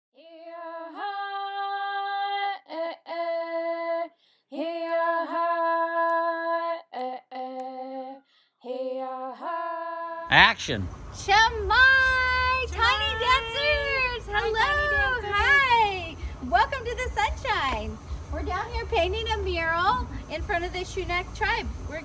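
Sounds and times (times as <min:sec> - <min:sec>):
woman singing unaccompanied: 0:00.2 - 0:10.3, 0:11.2 - 0:22.0.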